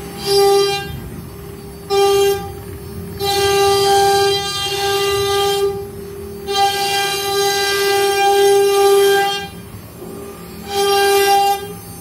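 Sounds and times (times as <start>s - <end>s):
wood router spindle whining: 0.0s - 12.0s.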